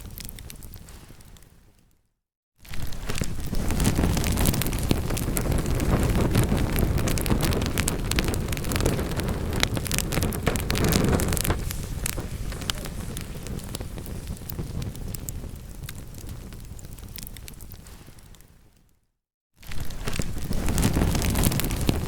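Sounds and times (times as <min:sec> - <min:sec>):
wood fire crackling and popping: 0:00.0 - 0:01.5, 0:02.7 - 0:18.9, 0:19.6 - 0:22.0
low rush of flame: 0:02.7 - 0:18.5, 0:19.6 - 0:22.0.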